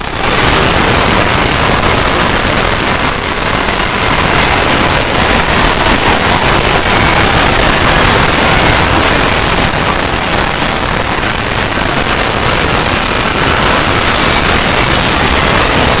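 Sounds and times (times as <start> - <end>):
harsh static noise: 0.0 - 16.0.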